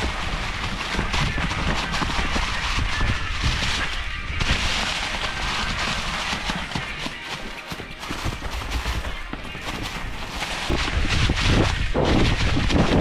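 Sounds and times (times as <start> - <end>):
bike knocking and rattling: 0.0 - 13.0
tyres crunching through leaves: 0.0 - 13.0
wind rumble on microphone: 0.0 - 13.0.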